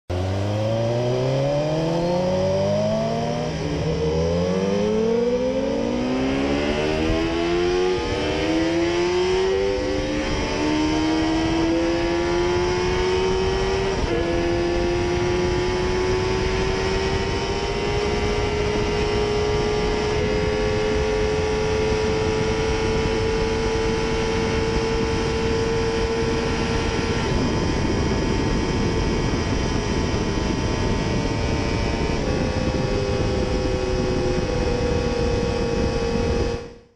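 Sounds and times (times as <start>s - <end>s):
motorbike engine accelerating: 0.1s - 36.9s.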